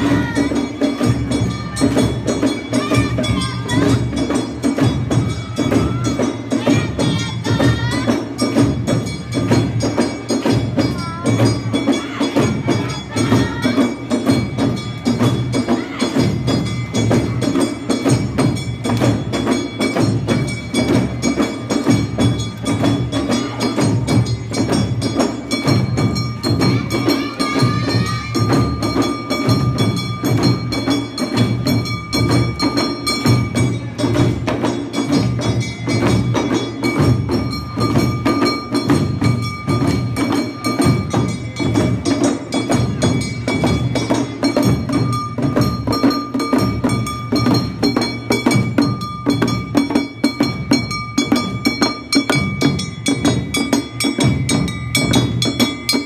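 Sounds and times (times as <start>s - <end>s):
fast drumming: 0.0s - 56.0s.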